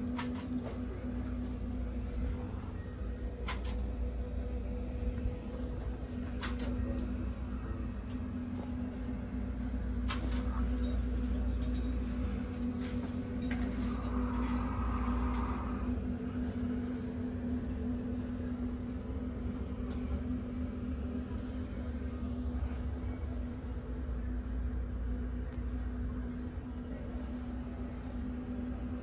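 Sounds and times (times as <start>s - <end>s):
low hum and rumble: 0.0s - 29.0s.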